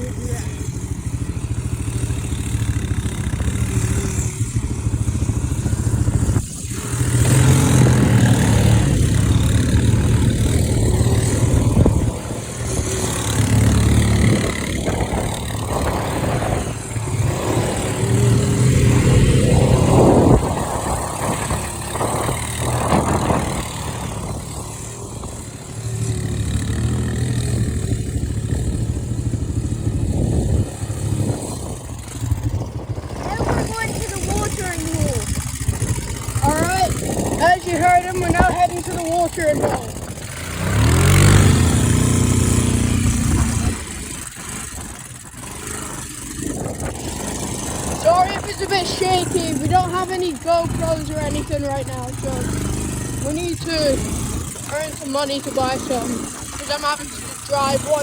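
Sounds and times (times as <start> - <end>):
quad bike engine revving: 0.0 - 58.0.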